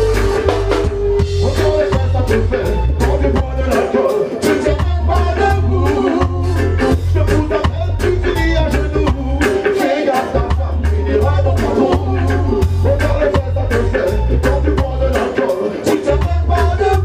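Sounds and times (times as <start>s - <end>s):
drum kit beat: 0.0s - 17.0s
electric guitar: 0.0s - 17.0s
heavy bass line: 0.0s - 17.0s
person singing: 0.0s - 17.0s.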